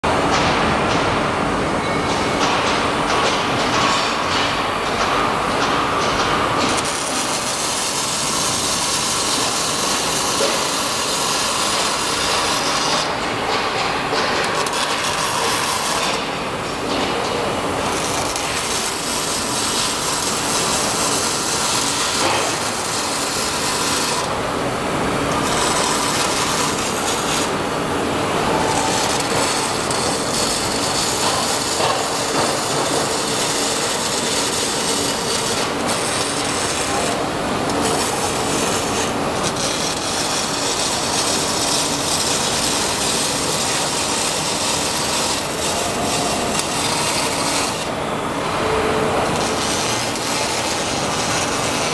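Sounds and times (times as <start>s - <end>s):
welding arcs crackling and hissing: 2.4s - 51.9s.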